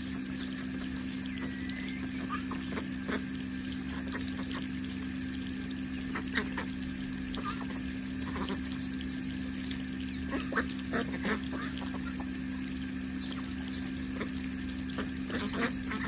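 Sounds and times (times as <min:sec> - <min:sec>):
ducks dabbling in water: 0:00.0 - 0:16.0
steady low hum: 0:00.0 - 0:16.0.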